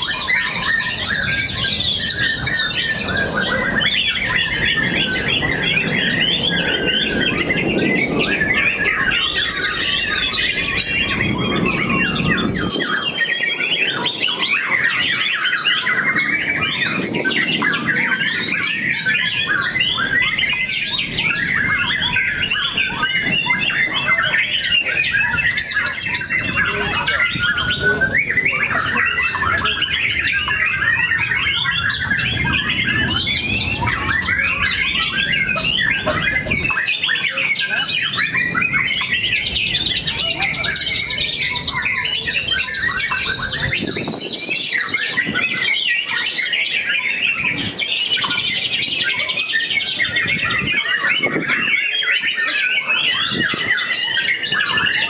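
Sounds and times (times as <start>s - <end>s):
songbirds singing trills and whistles: 0.0s - 55.0s.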